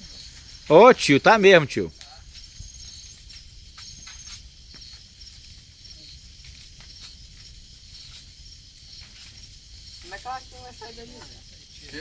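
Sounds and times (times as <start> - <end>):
bonfire crackling and popping: 0.0 - 12.0
night insects chirring: 0.0 - 12.0.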